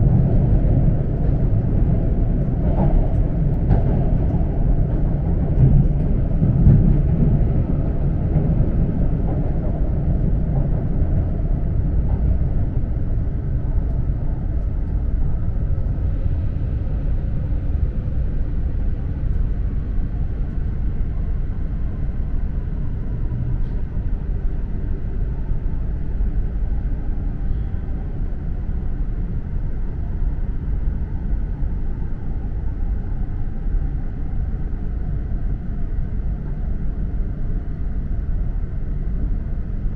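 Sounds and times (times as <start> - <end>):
train cabin low rumble: 0.0 - 39.9.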